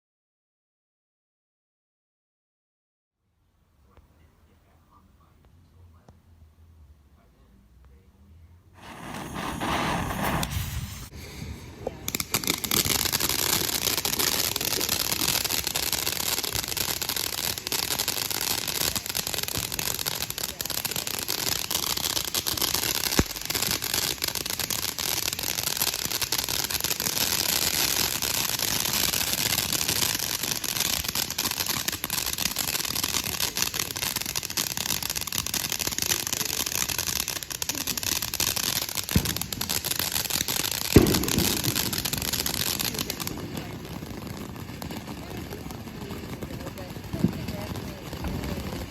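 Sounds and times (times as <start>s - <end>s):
firework fountain hissing and crackling: 8.8s - 48.9s.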